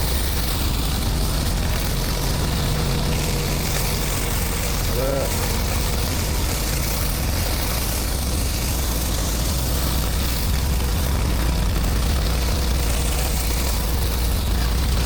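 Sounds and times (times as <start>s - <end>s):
pressure washer engine running: 0.0s - 15.0s
water spray hissing: 0.0s - 15.0s.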